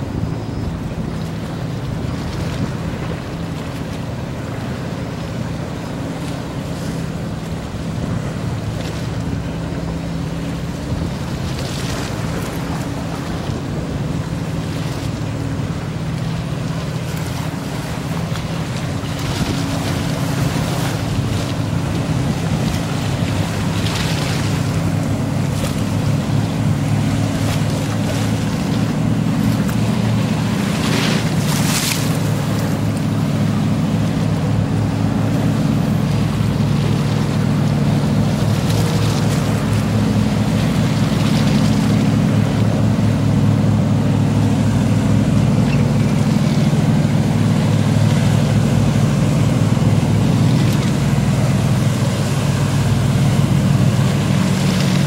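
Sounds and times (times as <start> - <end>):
wind on microphone: 0.0 - 4.8, 6.4 - 55.0
boat engine drone: 0.0 - 55.0
churned water rushing: 0.0 - 55.0.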